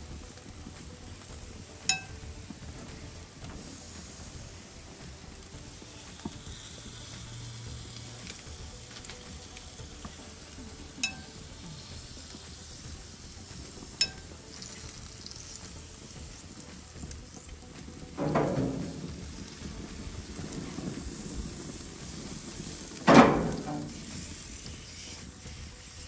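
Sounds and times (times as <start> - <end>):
food sizzling: 0.0 - 26.0.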